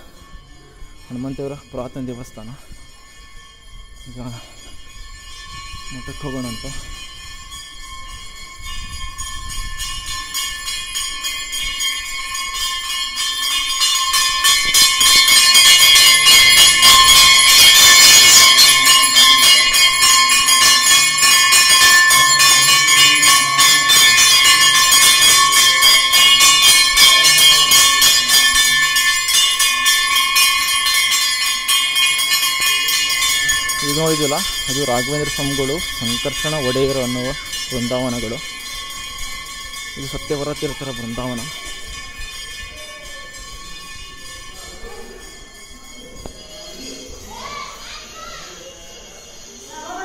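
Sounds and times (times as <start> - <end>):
brass bells clanging: 0.0 - 49.6.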